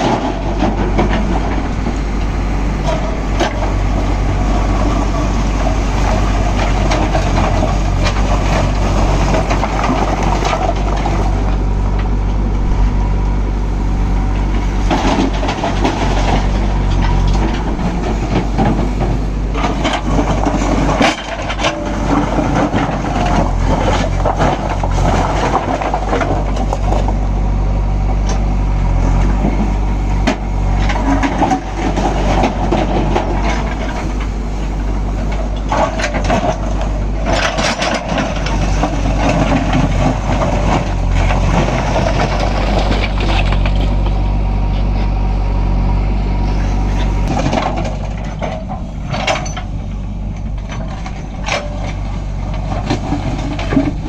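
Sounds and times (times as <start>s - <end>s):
stones clattering into lorry: 0.0s - 12.2s, 14.4s - 27.3s, 29.1s - 44.2s, 47.2s - 54.0s
diesel engine running: 0.0s - 54.0s.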